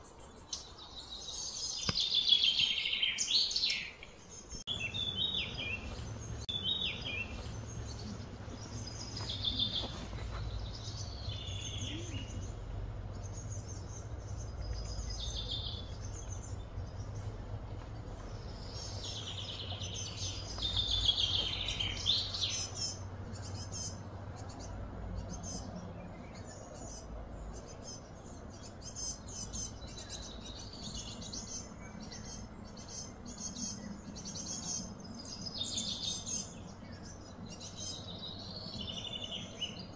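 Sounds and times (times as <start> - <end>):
wild birds chirping: 0.0 - 39.9
low steady hum: 4.0 - 39.9.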